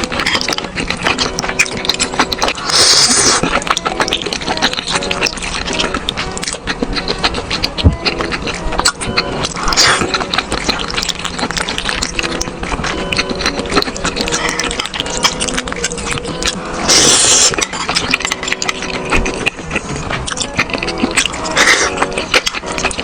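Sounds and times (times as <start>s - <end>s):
wet chewing: 0.0s - 23.0s.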